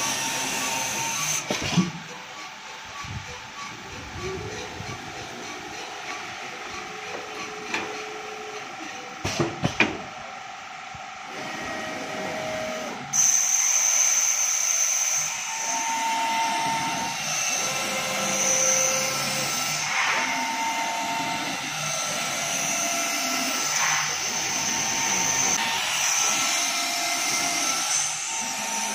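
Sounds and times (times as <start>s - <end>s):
carpet cutting machine whining: 0.0s - 28.9s.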